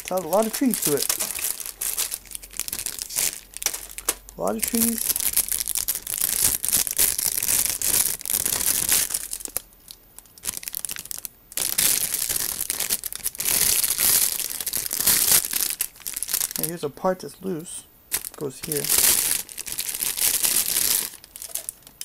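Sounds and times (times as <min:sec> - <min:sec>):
plastic bags crinkling: 0:00.0 - 0:17.3, 0:18.1 - 0:22.0.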